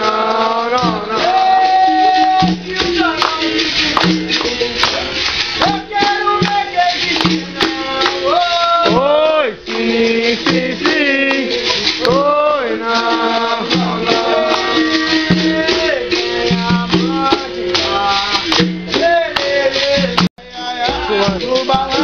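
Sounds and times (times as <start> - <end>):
berimbau playing: 0.0 - 22.0
shaker rattling: 0.0 - 22.0
voices singing: 0.0 - 22.0.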